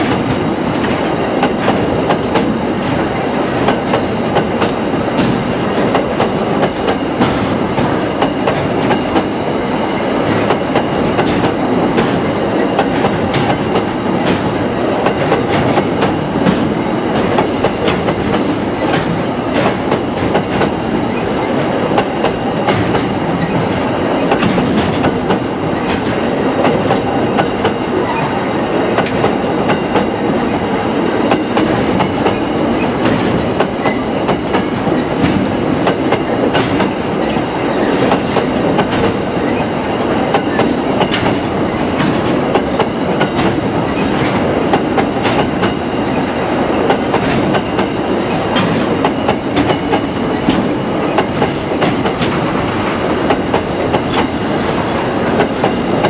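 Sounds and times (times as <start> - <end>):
train wagons rolling rumble: 0.0 - 56.0.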